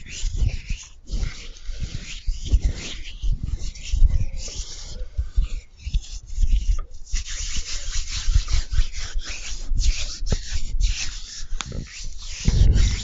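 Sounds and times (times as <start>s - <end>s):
sticky chewing mouth sounds: 0.0s - 13.0s.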